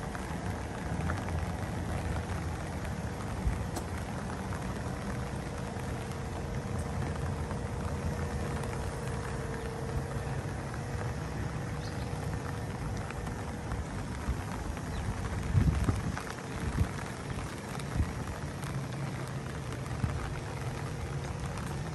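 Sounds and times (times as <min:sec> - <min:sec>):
faint hum: 0:00.0 - 0:21.9
rain hissing: 0:00.0 - 0:21.9.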